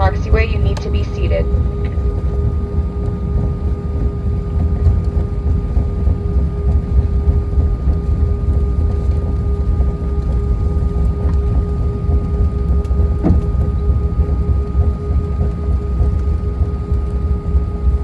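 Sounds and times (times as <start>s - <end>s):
aircraft cabin rumble and hum: 0.0s - 18.0s.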